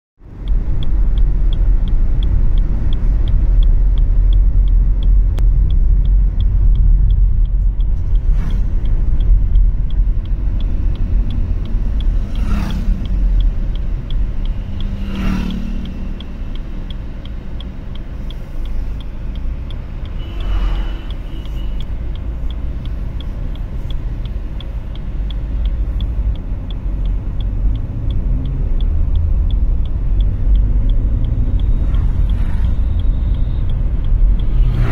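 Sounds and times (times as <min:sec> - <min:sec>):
engine and road rumble: 0:00.2 - 0:34.9
light ticking: 0:00.2 - 0:34.9.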